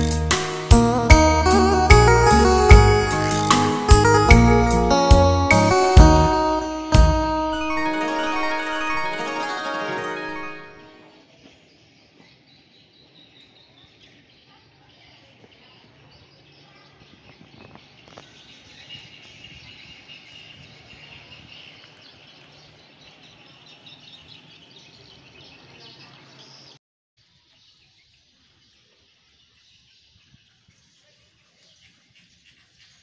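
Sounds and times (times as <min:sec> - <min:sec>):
birds chirping: 0:00.0 - 0:26.8.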